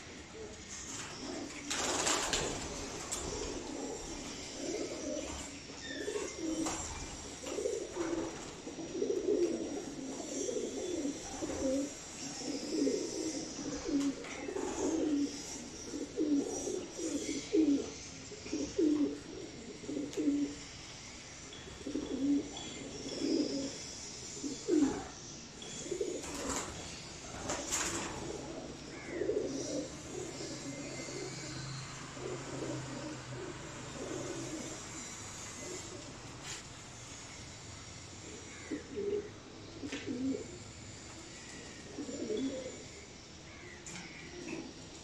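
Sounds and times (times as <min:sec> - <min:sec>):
pigeons cooing: 0:00.0 - 0:37.6, 0:38.2 - 0:45.0.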